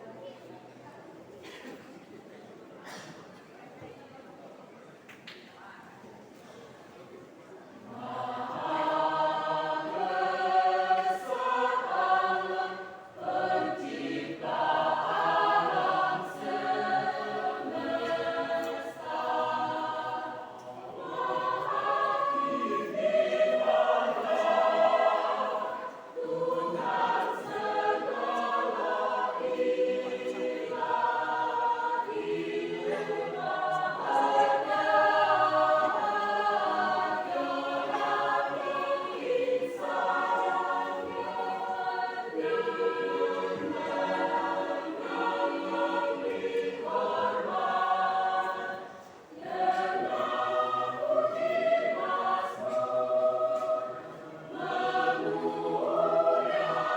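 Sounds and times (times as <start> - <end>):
church choir singing: 7.8 - 56.9.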